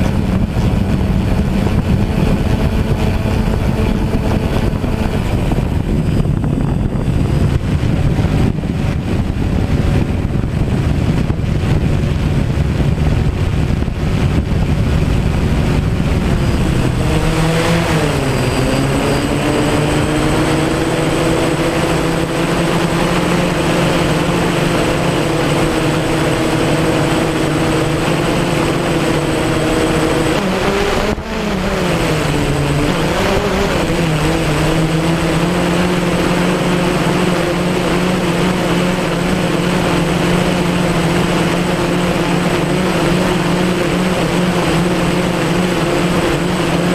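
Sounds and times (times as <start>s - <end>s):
drone propellers humming: 0.0s - 46.9s
wind buffeting microphone: 0.0s - 46.9s.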